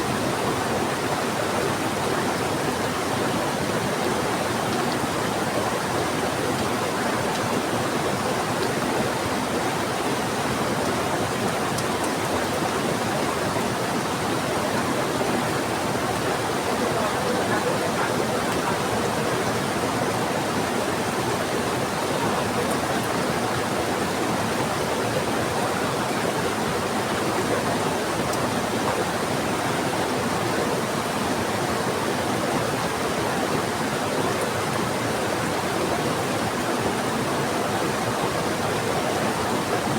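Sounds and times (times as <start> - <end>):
fast-flowing river rushing: 0.0 - 39.9
heavy rain: 0.0 - 39.9.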